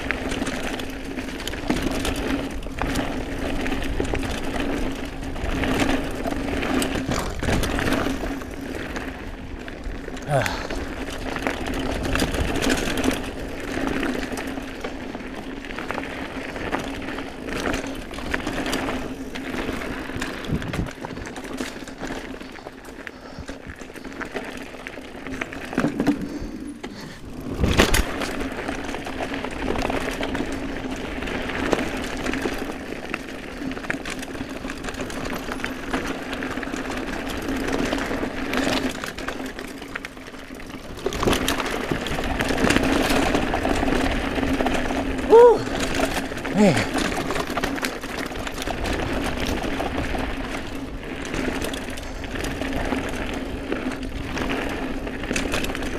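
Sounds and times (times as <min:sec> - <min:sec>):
bike hard jolt: 0:00.0 - 0:55.9
bike rattling: 0:00.0 - 0:55.9
tyres on dirt: 0:00.0 - 0:55.9.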